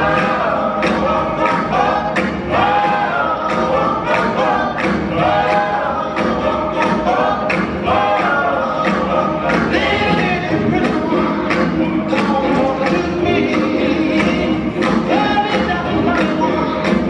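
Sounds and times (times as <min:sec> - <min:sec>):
voices singing over a steady beat: 0:00.0 - 0:17.0.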